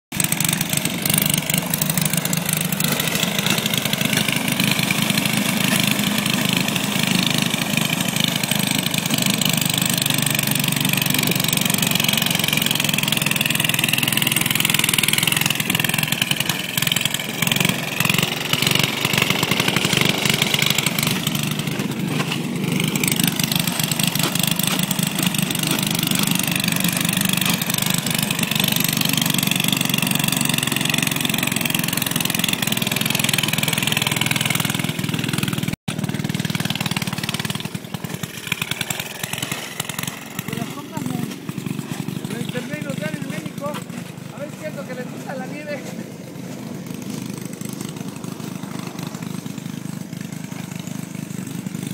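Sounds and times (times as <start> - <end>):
engine running: 0.1 - 51.9.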